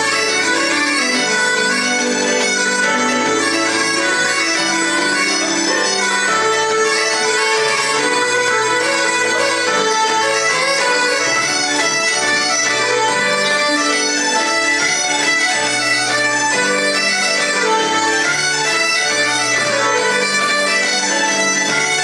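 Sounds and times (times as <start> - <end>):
bagpipes playing a tune: 0.0 - 22.0
fiddle: 0.0 - 22.0
keyboard: 0.0 - 22.0.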